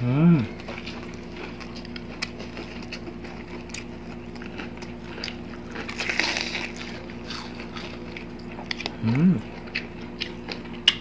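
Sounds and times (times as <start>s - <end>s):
crunching fried chicken: 0.5s - 11.0s.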